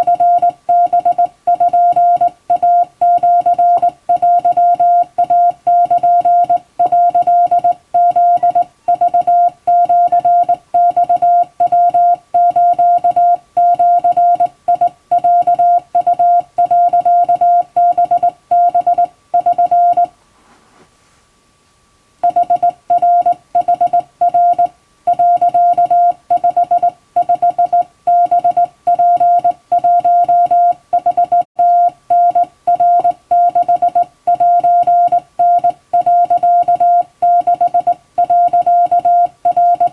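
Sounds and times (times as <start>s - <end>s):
morse code tone: 0.0s - 20.1s, 22.2s - 39.9s.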